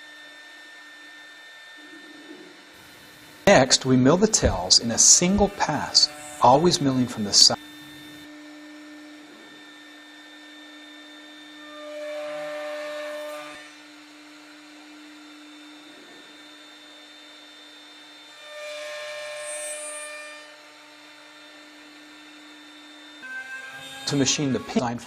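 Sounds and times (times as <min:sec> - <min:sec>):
router bit cutting wood: 0:00.0 - 0:25.0
router spindle humming: 0:00.0 - 0:25.0.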